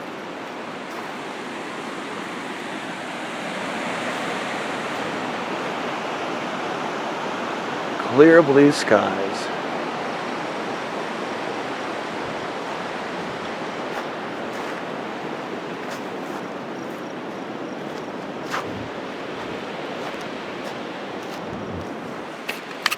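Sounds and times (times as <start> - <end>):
river water rushing: 0.0 - 22.9.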